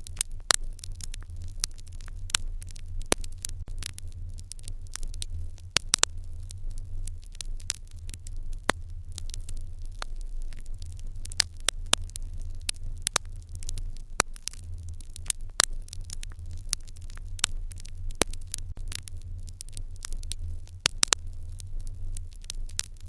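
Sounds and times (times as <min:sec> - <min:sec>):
fire crackling: 0:00.0 - 0:23.0
sharp pops from fire: 0:00.0 - 0:23.0.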